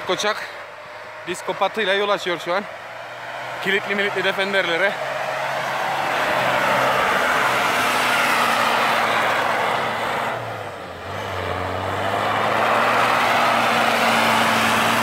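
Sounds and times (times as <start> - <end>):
diesel engine running hard: 0.0 - 15.0
tyres churning snow: 0.0 - 15.0.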